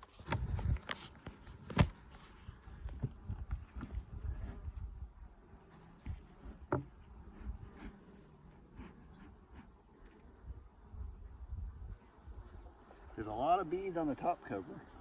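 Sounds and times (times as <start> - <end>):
bees buzzing: 1.2 - 15.0.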